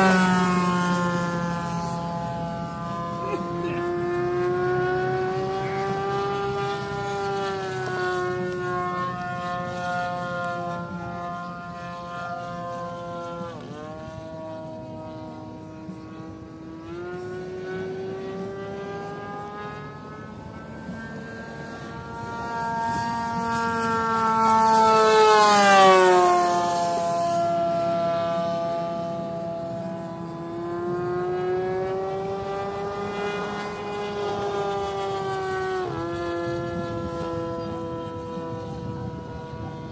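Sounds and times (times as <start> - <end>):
model plane motor whining: 0.0 - 39.9.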